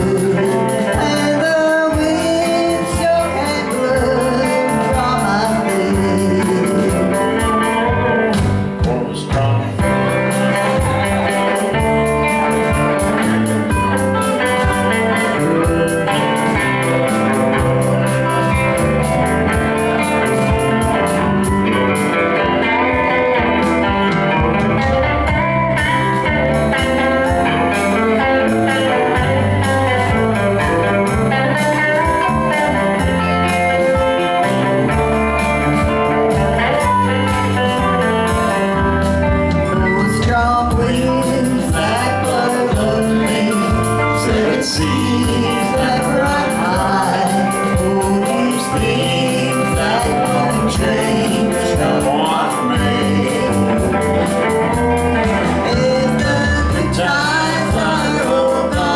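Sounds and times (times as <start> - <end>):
country band with guitars: 0.0 - 58.9
person singing: 0.0 - 58.9.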